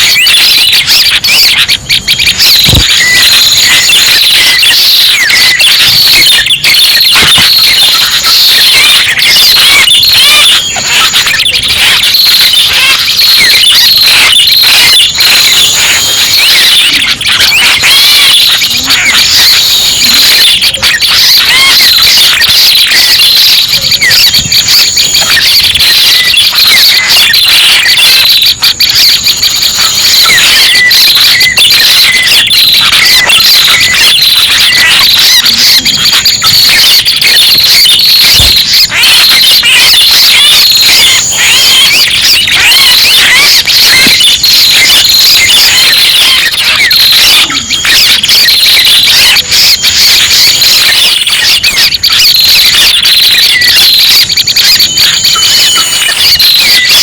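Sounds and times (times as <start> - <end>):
high-pitched bird chattering: 0.0 - 48.6.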